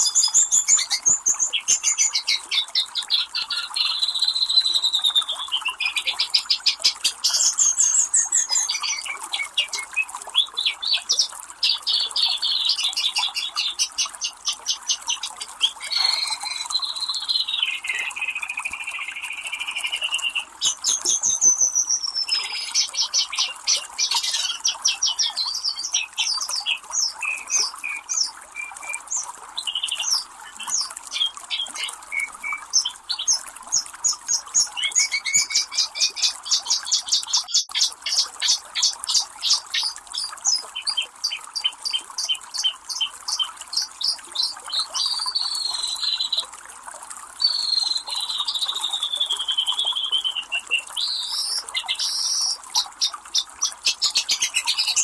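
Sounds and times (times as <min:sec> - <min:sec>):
birds calling and trilling: 0:00.0 - 0:46.5, 0:47.4 - 0:55.0
flowing creek water: 0:00.0 - 0:55.0.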